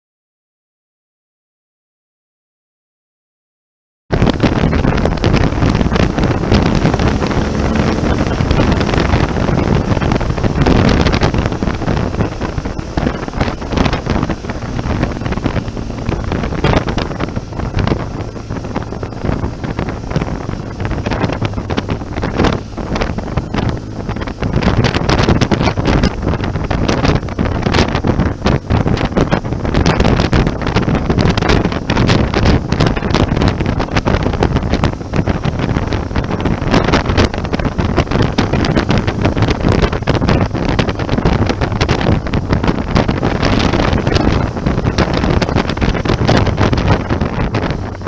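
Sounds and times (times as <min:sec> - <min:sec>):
motorcycle engine drone: 0:04.1 - 0:48.0
wind buffeting microphone: 0:04.1 - 0:48.0.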